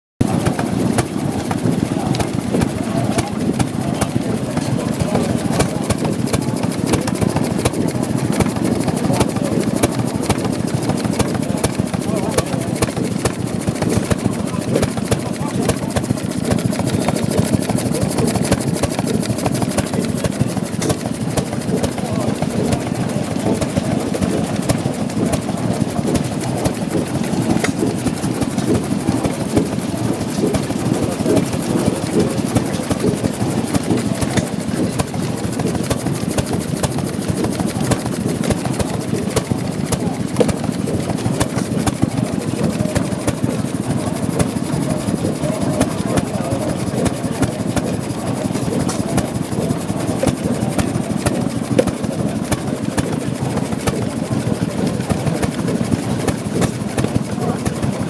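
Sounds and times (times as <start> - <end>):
stationary engine running: 0.2 - 58.0.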